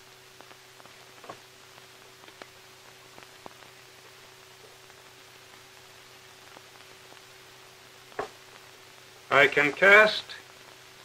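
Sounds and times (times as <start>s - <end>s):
faint clicks and crackles: 0.0s - 11.0s
film soundtrack hiss: 0.0s - 11.0s
mains hum: 0.0s - 11.0s.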